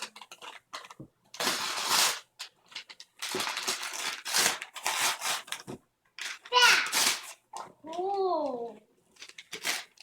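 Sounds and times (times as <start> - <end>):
wrapping paper tearing and rustling: 0.0 - 7.6, 9.2 - 10.0.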